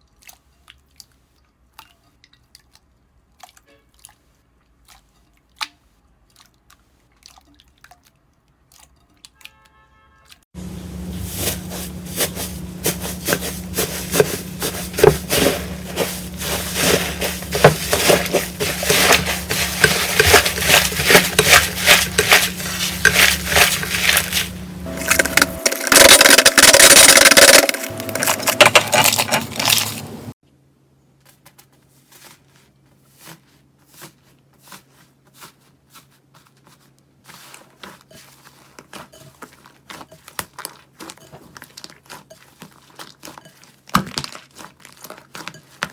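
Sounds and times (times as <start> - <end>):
slime squishes: 0.0 - 10.4, 11.4 - 30.3, 31.4 - 45.9.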